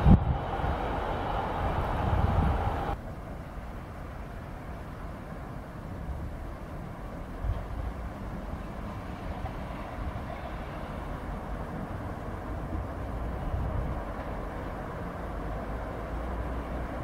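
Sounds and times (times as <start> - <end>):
low outdoor background rumble: 0.0 - 17.0.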